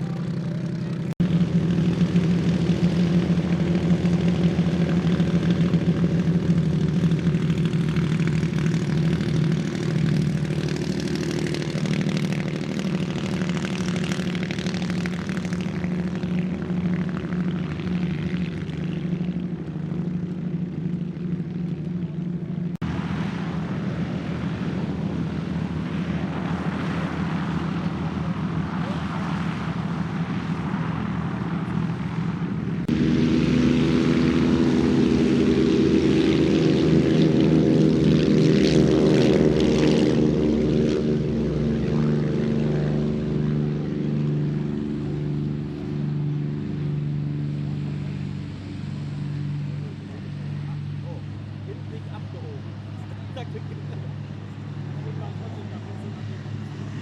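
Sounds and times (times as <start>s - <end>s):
propeller aircraft engines droning: 0.0s - 57.0s.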